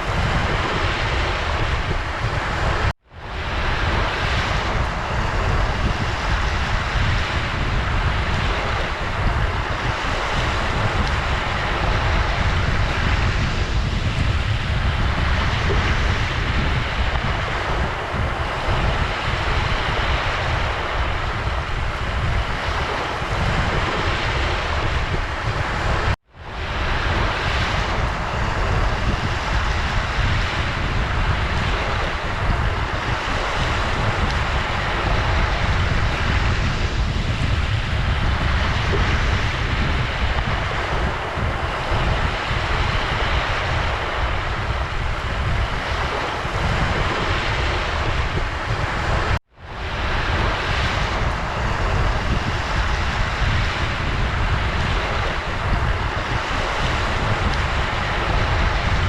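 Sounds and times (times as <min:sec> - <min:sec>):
ocean waves breaking: 0:00.0 - 0:59.0
wind rumble on microphone: 0:00.0 - 0:59.0.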